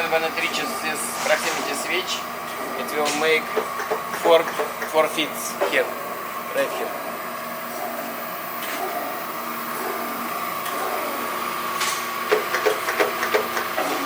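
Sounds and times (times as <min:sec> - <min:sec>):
grinding machine humming: 0:00.0 - 0:14.0.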